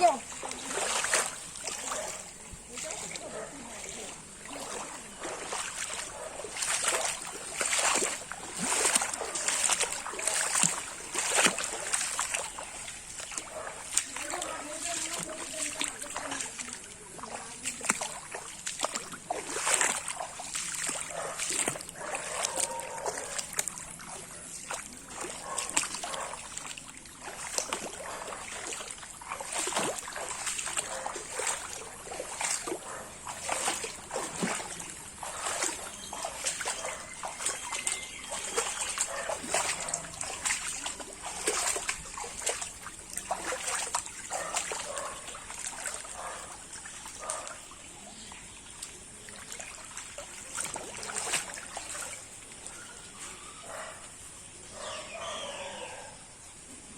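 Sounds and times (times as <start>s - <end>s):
water trickling: 0.0s - 54.0s
floodwater splashing: 0.0s - 54.6s.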